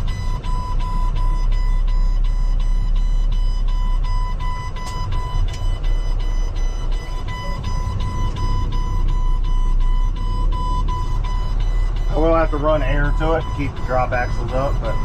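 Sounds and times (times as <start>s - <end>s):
diesel truck engine rumble: 0.0s - 15.0s
truck backup alarm beeping: 0.0s - 15.0s.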